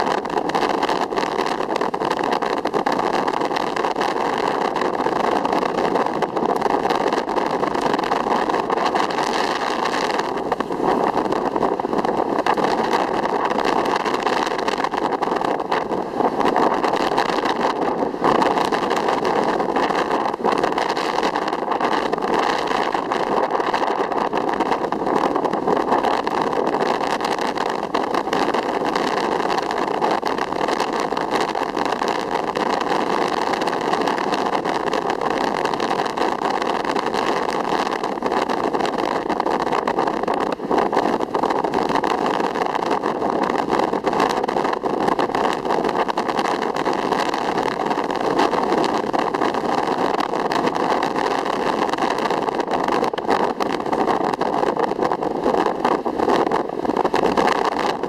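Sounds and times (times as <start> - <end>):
sea rushing: 0.0 - 58.0.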